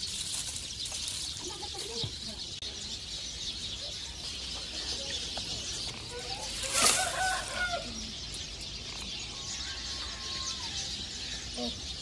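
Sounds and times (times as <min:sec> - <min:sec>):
faint small birds chirping: 0:00.0 - 0:12.0.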